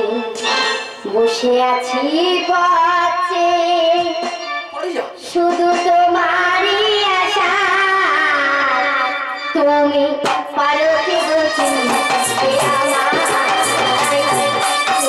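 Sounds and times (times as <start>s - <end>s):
musical backing: 0.0s - 15.0s.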